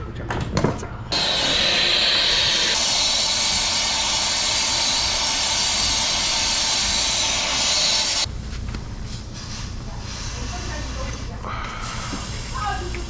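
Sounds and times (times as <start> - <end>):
compressed gas hissing: 1.1 - 8.3, 9.0 - 13.0.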